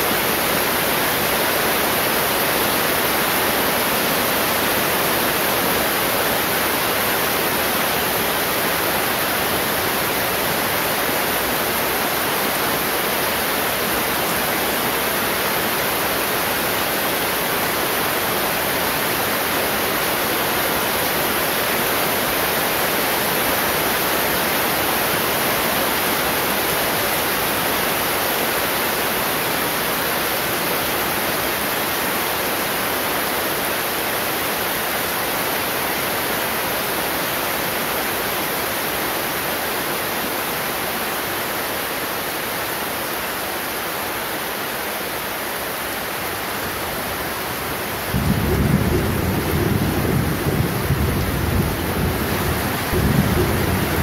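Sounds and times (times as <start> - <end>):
heavy rain on plants: 0.0 - 54.0.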